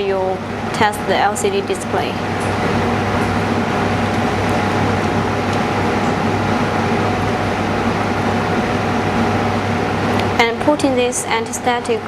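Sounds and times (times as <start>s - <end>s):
faint steady whine: 0.0s - 12.0s
mechanical hum and hiss: 0.0s - 12.0s.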